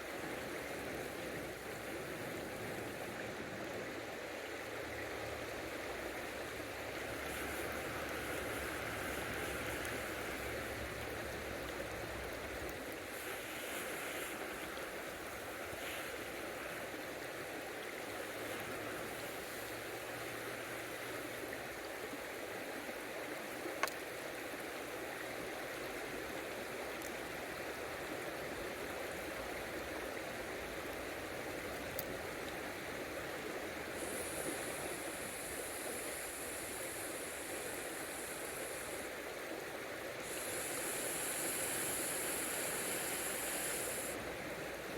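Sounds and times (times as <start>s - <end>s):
high steady hiss: 0.0s - 44.9s
river flowing over stones: 0.0s - 44.9s.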